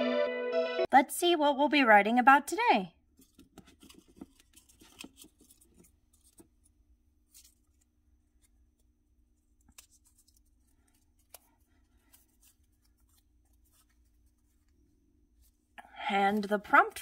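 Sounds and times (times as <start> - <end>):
paper rustling: 3.1 - 17.0.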